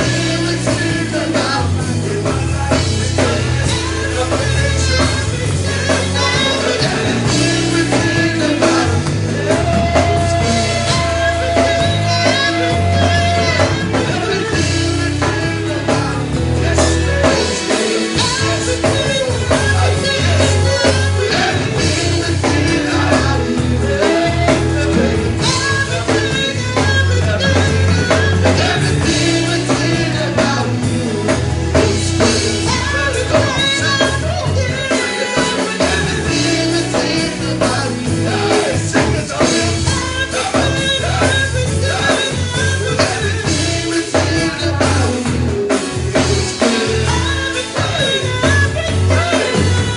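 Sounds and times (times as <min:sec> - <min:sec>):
person singing: 0:00.0 - 0:49.9
worship band playing: 0:00.0 - 0:49.9.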